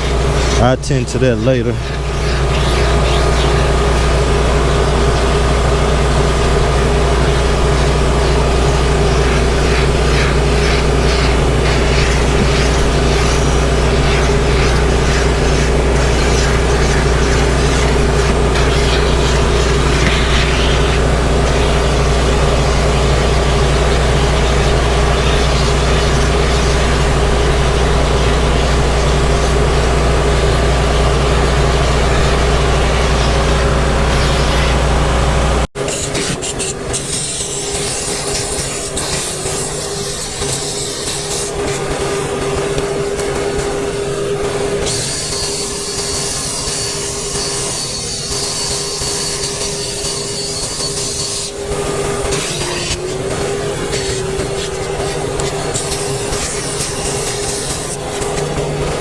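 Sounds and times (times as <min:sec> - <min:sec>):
motor droning: 0:00.0 - 0:59.0.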